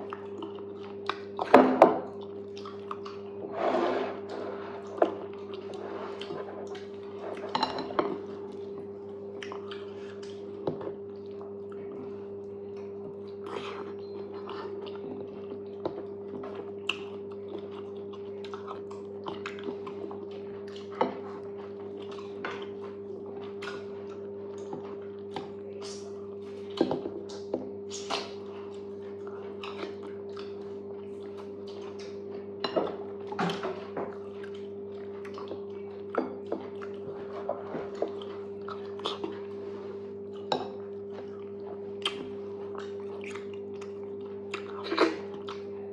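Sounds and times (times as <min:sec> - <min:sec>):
steady low hum: 0:00.0 - 0:45.9
wet chewing and mouth smacks: 0:02.1 - 0:03.4, 0:08.5 - 0:32.2, 0:33.3 - 0:37.2, 0:37.9 - 0:45.7.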